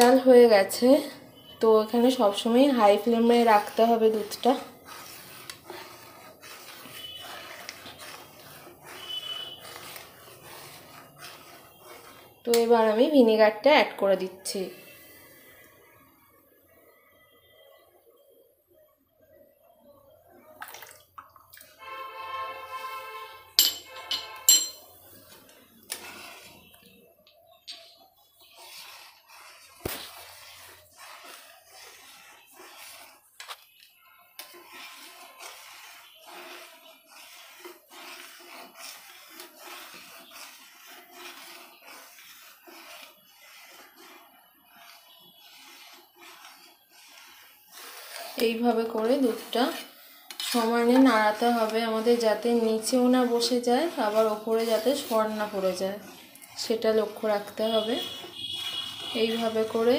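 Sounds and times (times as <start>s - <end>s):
metal spatula scraping steel pan: 0.0s - 15.5s, 21.8s - 59.9s
ladle stirring boiling milk: 0.0s - 17.6s, 19.6s - 59.9s
liquid sloshing: 1.4s - 13.0s, 20.6s - 59.8s.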